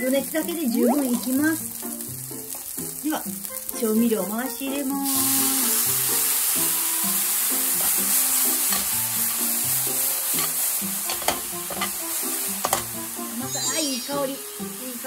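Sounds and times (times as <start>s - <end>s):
sauce sizzling in a frying pan: 0.0s - 15.0s.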